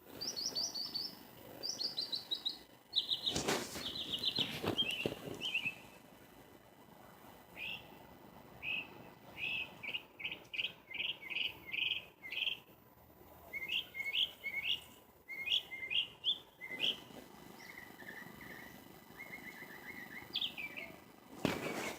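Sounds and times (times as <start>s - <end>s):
small birds chirping: 0.0s - 6.1s, 7.5s - 21.9s.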